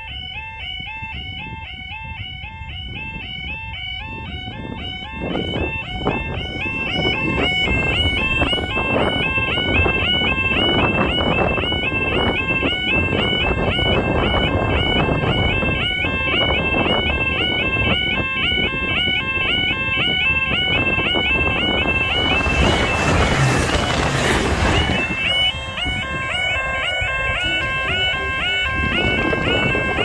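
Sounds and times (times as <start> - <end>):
warbling level crossing alarms: 0.0 - 30.0.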